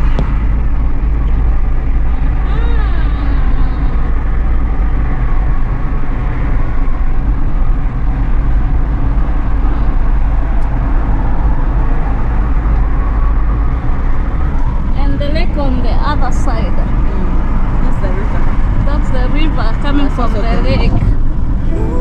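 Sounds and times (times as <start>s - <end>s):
road vehicle rumbling: 0.0s - 22.0s.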